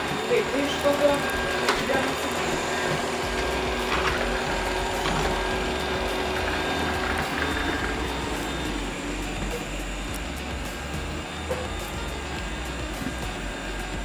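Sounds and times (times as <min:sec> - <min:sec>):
robot vacuum whirring: 0:00.0 - 0:14.0.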